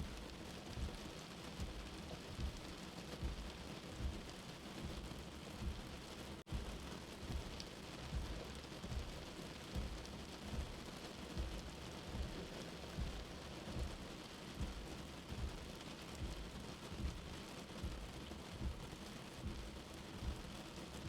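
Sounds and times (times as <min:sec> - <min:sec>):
gentle rain falling: 0:00.0 - 0:21.0
heartbeat thump: 0:00.0 - 0:21.0.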